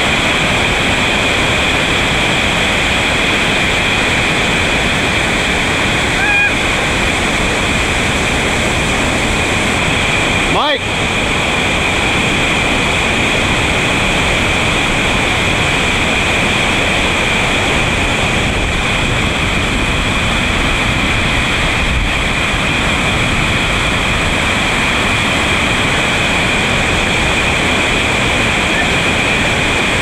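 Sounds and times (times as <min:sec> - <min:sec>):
whitewater rapid rushing: 0:00.0 - 0:30.0.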